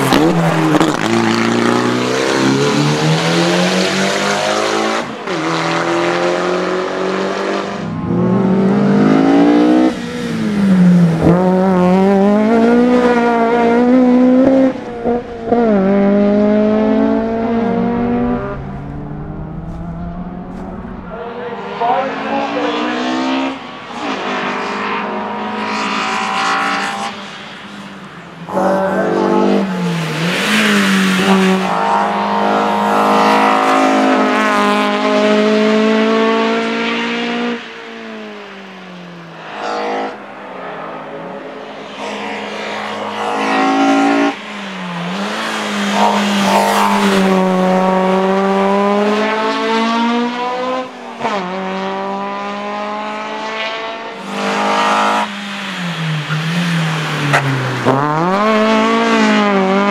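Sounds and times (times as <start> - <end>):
racing car engine at full throttle: 0.0 - 59.9.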